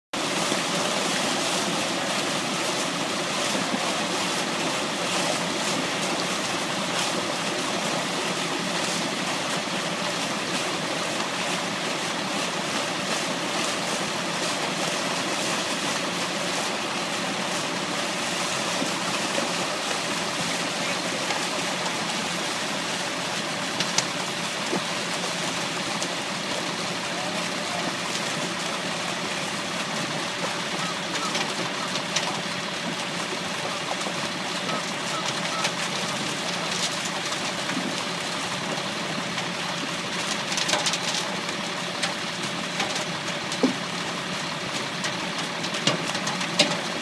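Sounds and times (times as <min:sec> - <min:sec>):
truck engine hum: 0:00.2 - 0:47.0
water gushing and splashing: 0:00.2 - 0:47.0.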